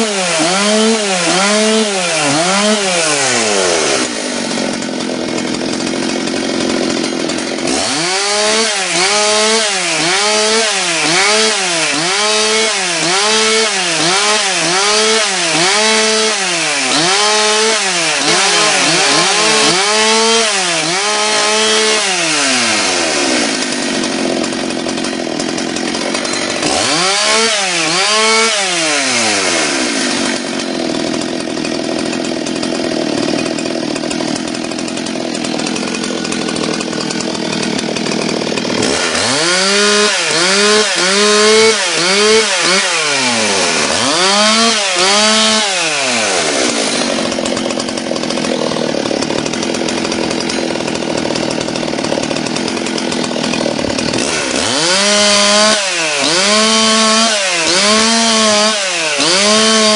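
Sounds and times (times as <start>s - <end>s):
chainsaw carving into log: 0.0s - 59.9s.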